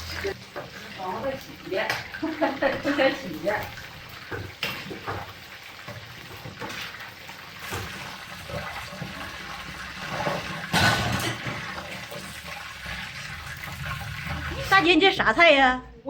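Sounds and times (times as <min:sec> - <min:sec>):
water running and splashing: 0:00.0 - 0:15.4.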